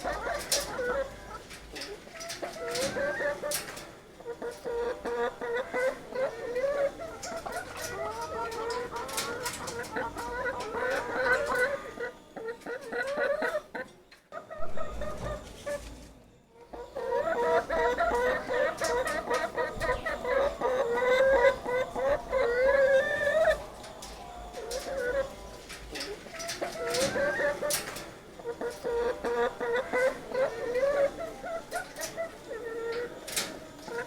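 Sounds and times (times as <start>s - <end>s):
hen clucking: 0.0s - 34.0s.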